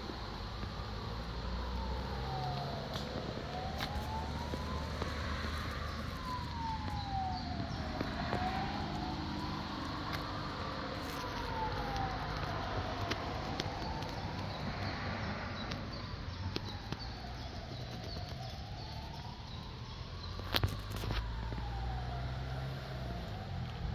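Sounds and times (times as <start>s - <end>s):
siren wailing: 0.0s - 23.9s.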